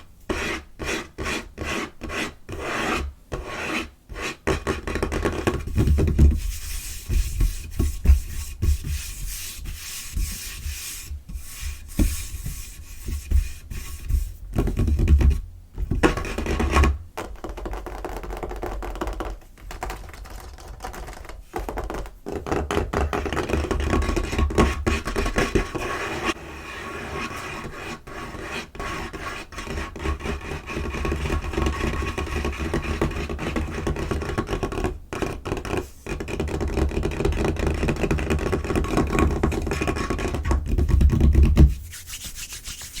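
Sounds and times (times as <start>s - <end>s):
fingers scratching on a tabletop: 0.0s - 15.4s, 16.0s - 43.0s.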